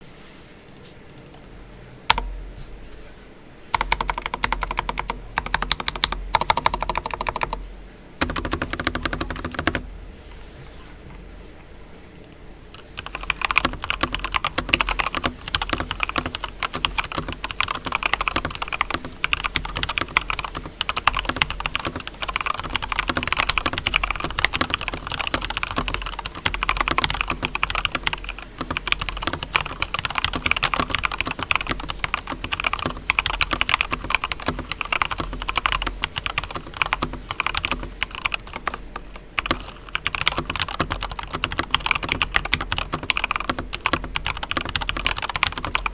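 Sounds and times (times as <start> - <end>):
fast mechanical keyboard typing: 3.8 - 9.9, 12.8 - 45.9.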